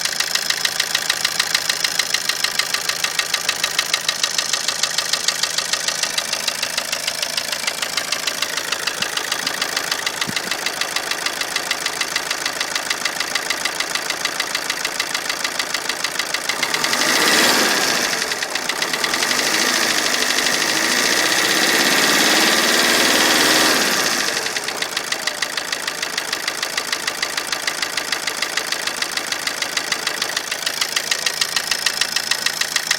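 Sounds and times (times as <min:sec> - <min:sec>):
diesel engine idling with knock: 0:00.0 - 0:32.9.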